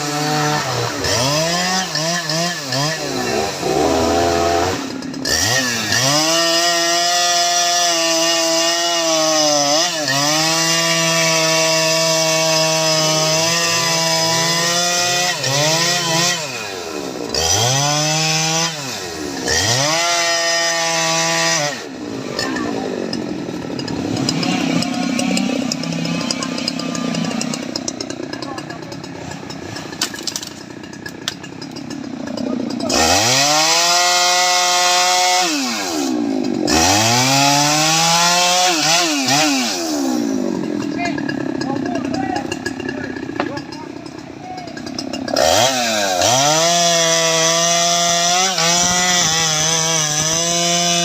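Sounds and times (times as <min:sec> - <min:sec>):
chainsaw cutting wood: 0:00.0 - 0:51.0.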